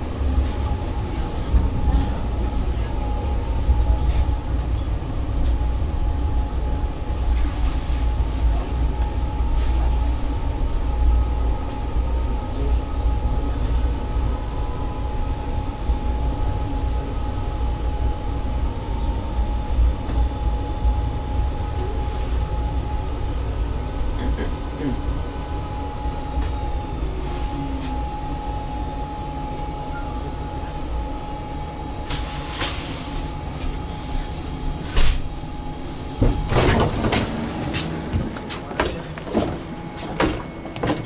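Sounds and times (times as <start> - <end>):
constant high hum: 0.0 - 41.0
train wheels rumbling on track: 0.0 - 41.0.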